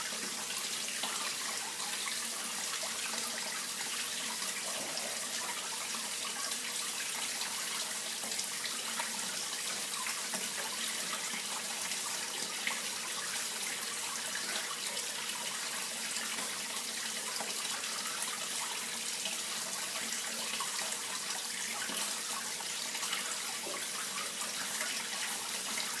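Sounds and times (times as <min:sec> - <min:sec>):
water flowing and splashing: 0:00.0 - 0:26.0.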